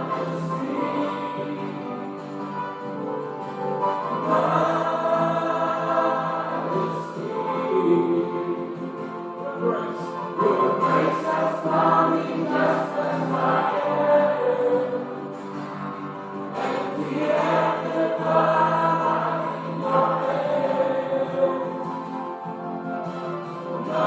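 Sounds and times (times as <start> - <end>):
group singing a slow hymn: 0.0 - 24.0
sustained accompanying chords: 0.0 - 24.0.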